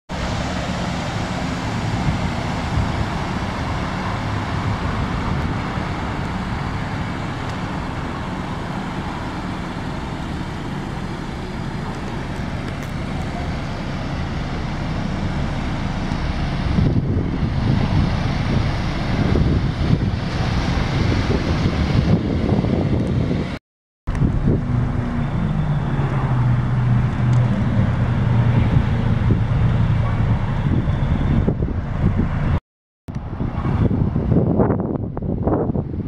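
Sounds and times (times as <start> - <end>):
road traffic rumble: 0.1 - 36.0.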